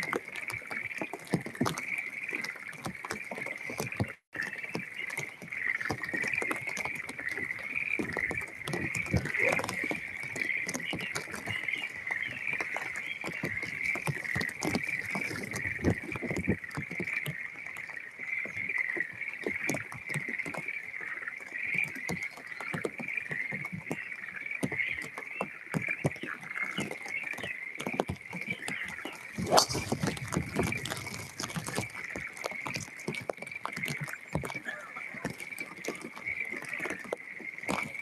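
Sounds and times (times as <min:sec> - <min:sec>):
frogs chorus: 0:00.0 - 0:38.0
rain drops falling: 0:00.0 - 0:38.0.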